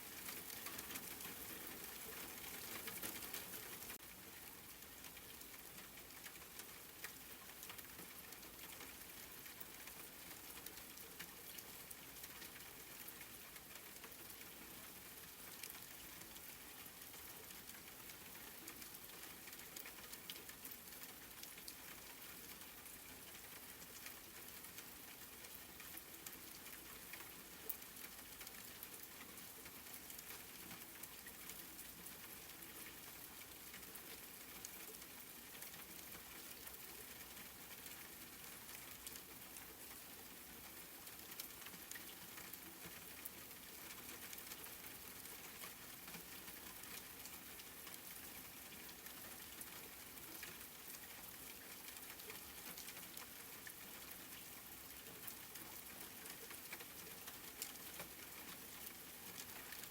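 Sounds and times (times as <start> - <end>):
faint steady rain: 0.0 - 59.9.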